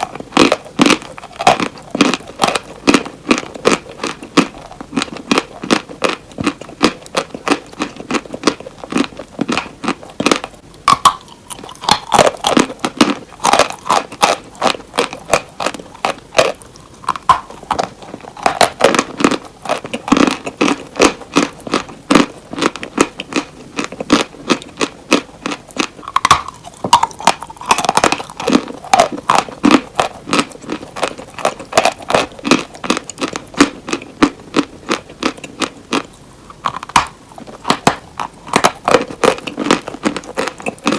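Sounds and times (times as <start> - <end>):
chewing crunchy cheese: 0.0 - 40.9.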